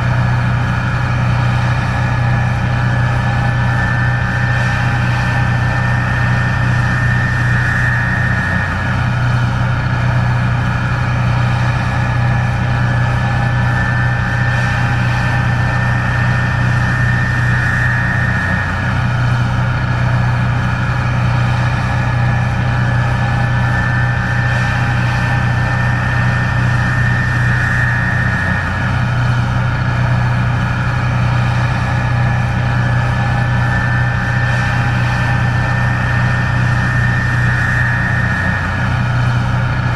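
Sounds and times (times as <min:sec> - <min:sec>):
combine engine hum: 0:00.0 - 0:39.9
high whine: 0:00.0 - 0:39.9.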